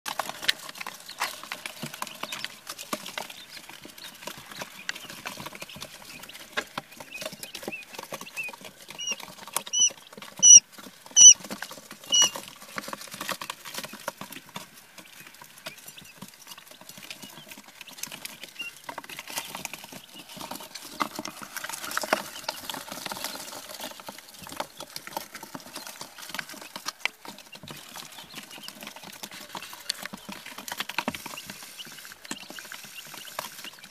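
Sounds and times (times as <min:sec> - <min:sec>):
chicks pecking: 0:00.1 - 0:33.9
chicks peeping: 0:00.1 - 0:33.9.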